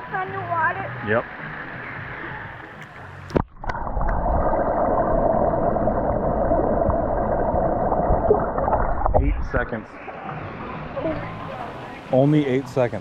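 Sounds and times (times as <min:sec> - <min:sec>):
muffled water rushing underwater: 0:01.3 - 0:12.2.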